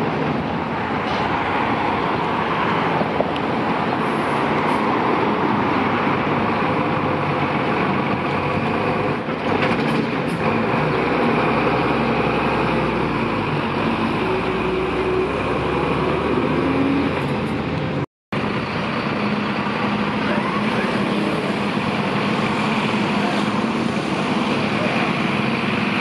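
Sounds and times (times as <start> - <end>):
fire engine diesel engines: 0.0 - 26.0
street traffic: 0.0 - 26.0.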